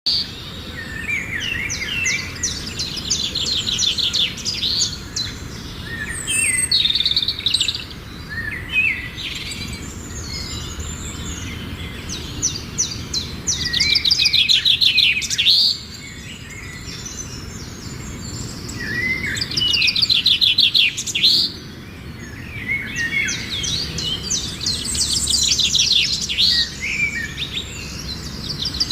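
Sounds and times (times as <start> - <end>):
songbirds singing: 0.0 - 28.9.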